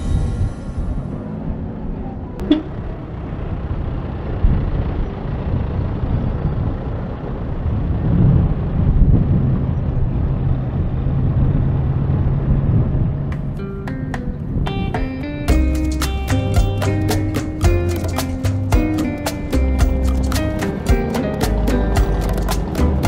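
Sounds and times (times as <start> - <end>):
low engine hum: 0.0 - 14.7, 15.5 - 23.0
vehicle engines at low speed: 0.0 - 23.0.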